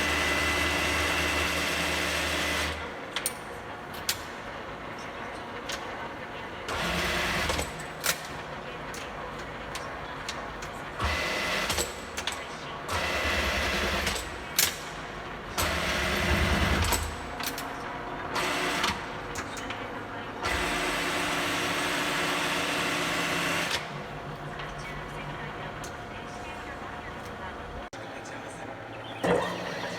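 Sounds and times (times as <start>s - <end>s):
milling machine running: 0.0s - 27.9s.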